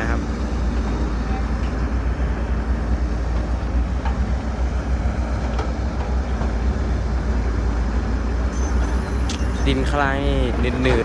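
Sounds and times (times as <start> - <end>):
heavy diesel engine rumbling: 0.0 - 11.0.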